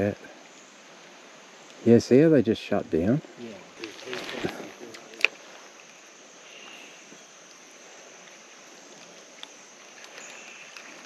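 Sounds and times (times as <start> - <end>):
creek running: 0.0 - 11.0.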